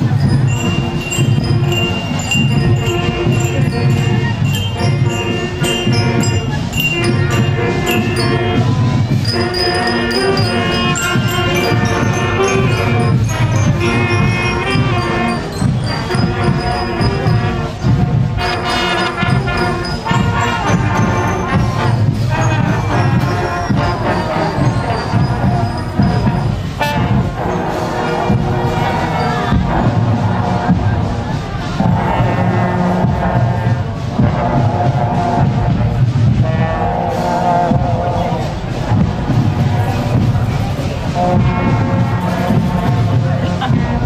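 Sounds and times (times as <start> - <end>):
marching band brass and drums: 0.0 - 44.0.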